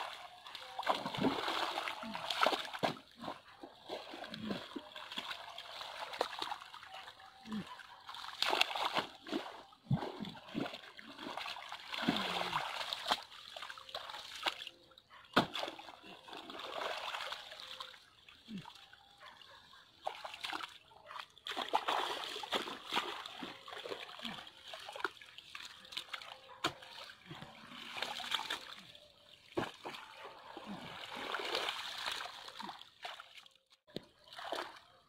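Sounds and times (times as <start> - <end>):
water splashing and sloshing: 0.0 - 35.0.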